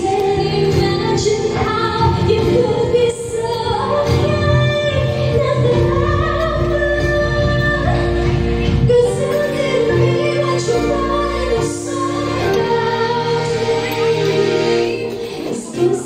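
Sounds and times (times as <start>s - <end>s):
backing track music: 0.0s - 16.0s
woman singing karaoke: 0.0s - 16.0s.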